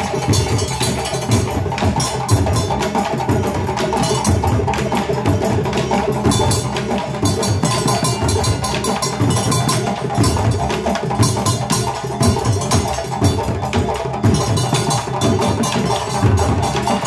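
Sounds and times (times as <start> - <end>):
hand drums playing fast rhythm: 0.0 - 17.0.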